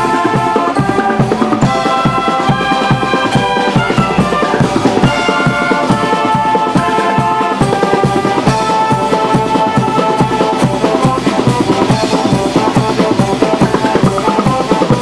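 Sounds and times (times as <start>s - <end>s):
shawm band reedy chords: 0.0s - 15.0s
steady drum beat: 0.0s - 15.0s.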